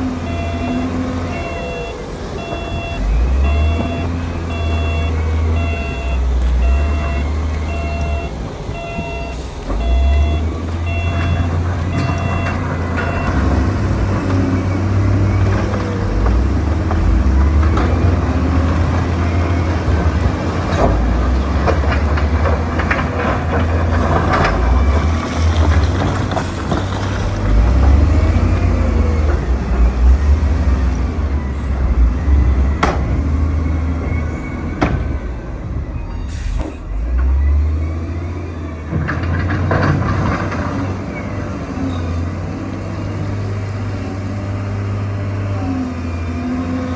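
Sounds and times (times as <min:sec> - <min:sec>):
diesel engine rumbling under load: 0:00.0 - 0:46.9.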